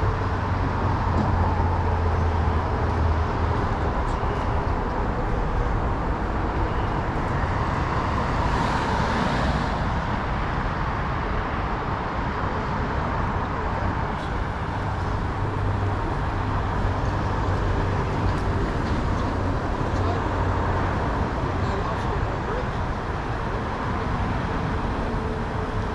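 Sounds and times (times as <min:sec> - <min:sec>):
vehicle road noise: 0:00.0 - 0:25.9.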